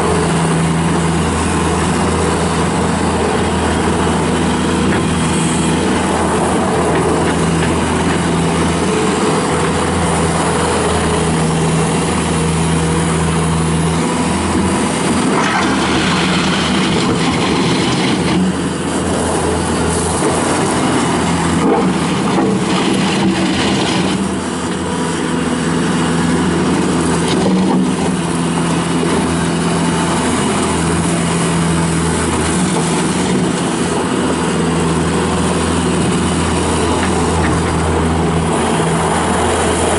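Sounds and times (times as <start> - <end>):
diesel loader engine running: 0.0 - 39.9.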